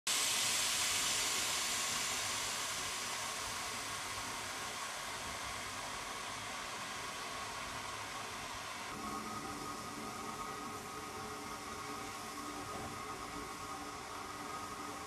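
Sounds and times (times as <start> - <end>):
steam hissing: 0.1 - 15.0.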